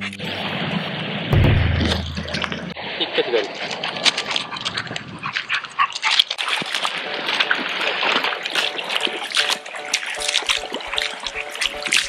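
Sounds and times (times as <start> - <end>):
paws splashing in water: 1.9 - 12.0.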